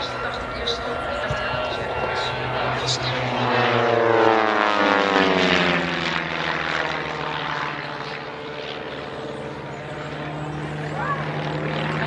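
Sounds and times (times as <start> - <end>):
propeller aircraft droning: 0.0 - 12.0.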